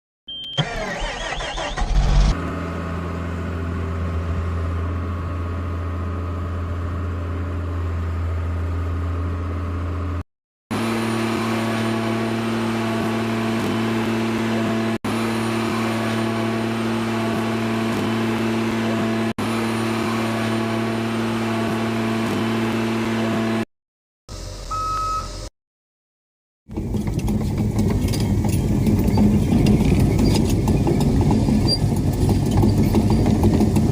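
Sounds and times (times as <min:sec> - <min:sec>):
diesel excavator engine running: 0:00.3 - 0:23.6, 0:26.7 - 0:33.9.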